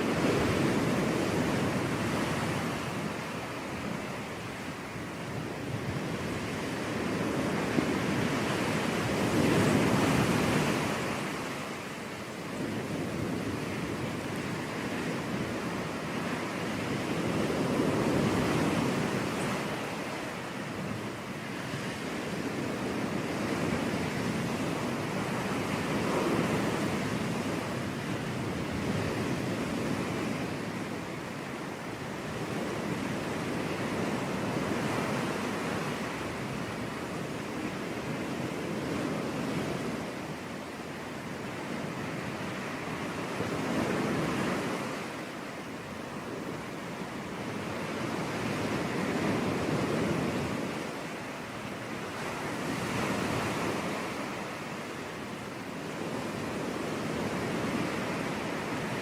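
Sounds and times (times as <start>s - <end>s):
ocean waves on beach: 0.0s - 59.0s.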